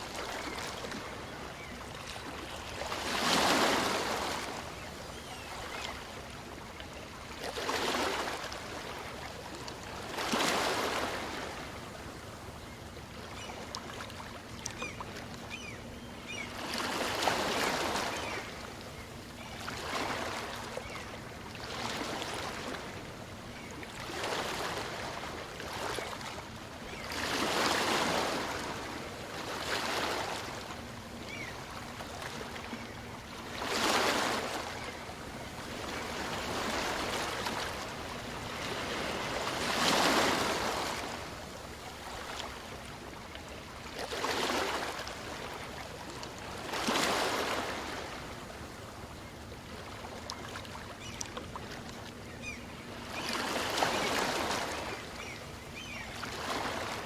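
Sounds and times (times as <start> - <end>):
small waves washing on shore: 0.0 - 15.7, 16.3 - 57.0.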